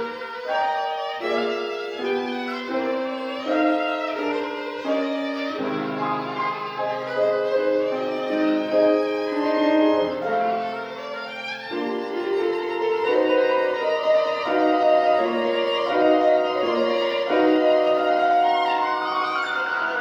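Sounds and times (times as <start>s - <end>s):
piano accompaniment: 0.0s - 20.0s
violin melody: 0.0s - 20.0s.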